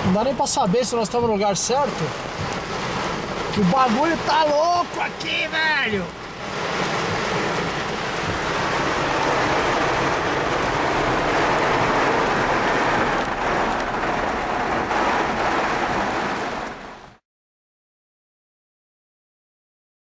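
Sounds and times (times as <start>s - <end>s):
heavy rain on car roof: 0.0s - 17.2s.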